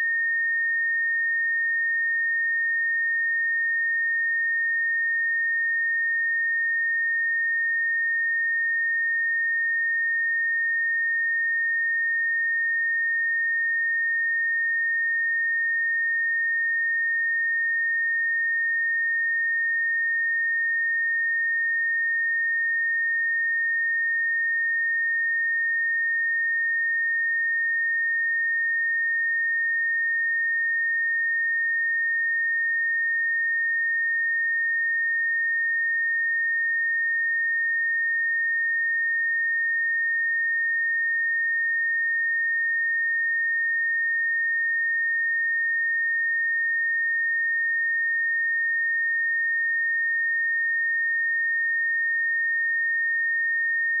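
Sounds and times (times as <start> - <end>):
high-pitched sine test tone: 0.0 - 54.0.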